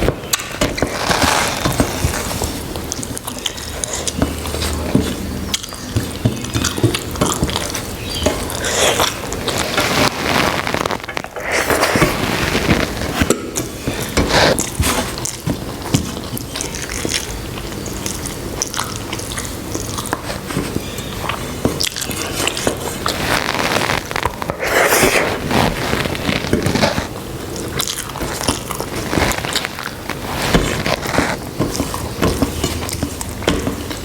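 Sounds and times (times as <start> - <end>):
wet chewing mouth sounds: 0.3 - 34.0.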